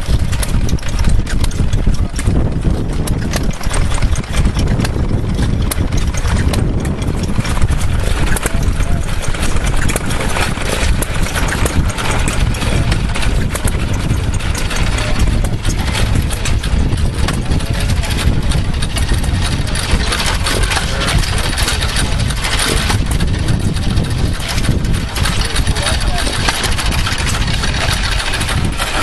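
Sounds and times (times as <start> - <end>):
stationary engines firing and knocking: 0.0 - 29.0.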